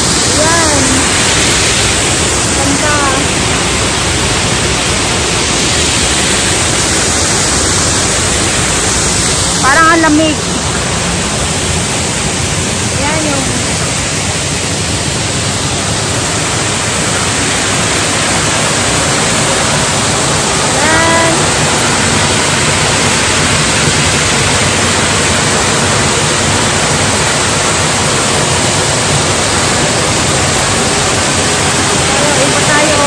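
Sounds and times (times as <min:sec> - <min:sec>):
waterfall rushing and splashing: 0:00.0 - 0:33.0.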